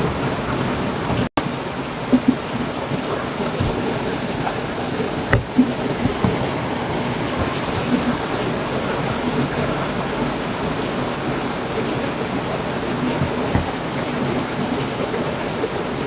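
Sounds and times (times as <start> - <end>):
heavy rain hissing: 0.0 - 16.0
raindrops pattering: 0.0 - 16.0.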